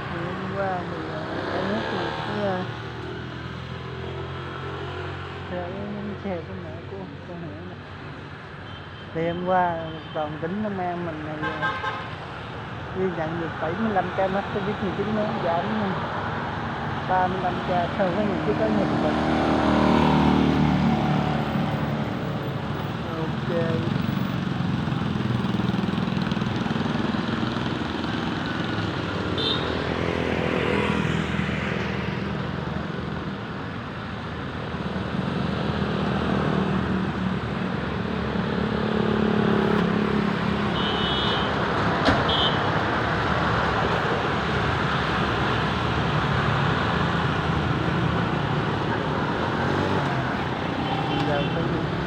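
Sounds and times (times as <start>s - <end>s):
road traffic passing: 0.0s - 52.0s.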